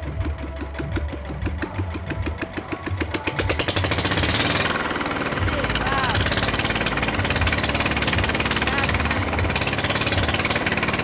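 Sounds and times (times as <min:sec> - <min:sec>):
diesel generator engine running: 0:00.0 - 0:11.0.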